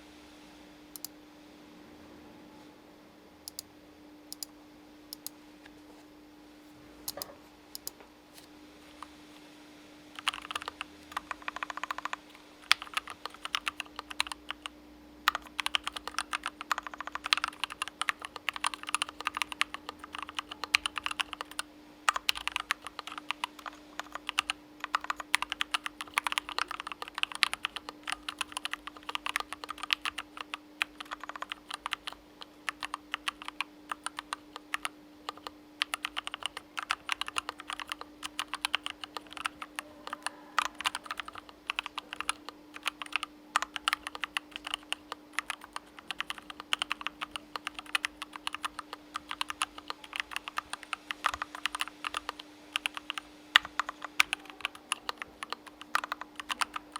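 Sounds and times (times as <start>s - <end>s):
faint steady hum: 0.0s - 56.9s
mechanical keyboard typing: 3.5s - 3.7s, 10.2s - 14.7s, 15.3s - 56.9s.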